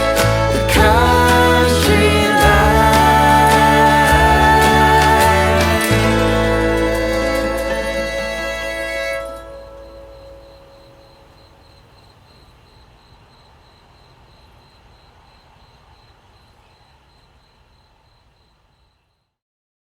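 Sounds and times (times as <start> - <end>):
faint hiss: 0.0 - 19.2
cricket chirping: 0.0 - 19.4.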